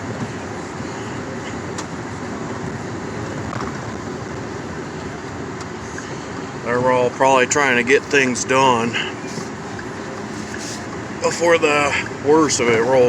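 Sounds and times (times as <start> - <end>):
road and engine noise in truck cabin: 0.0 - 13.0.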